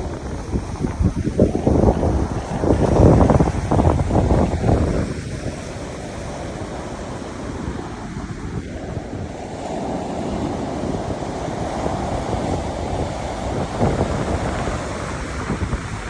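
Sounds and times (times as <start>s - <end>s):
surf washing on shore: 0.0s - 16.0s
wind buffeting microphone: 0.0s - 16.0s.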